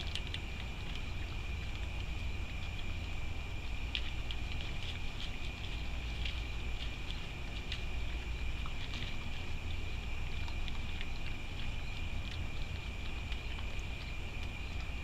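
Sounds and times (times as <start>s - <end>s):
raccoon chewing and crunching: 0.0s - 15.0s
steady high-pitched whine: 0.0s - 15.0s.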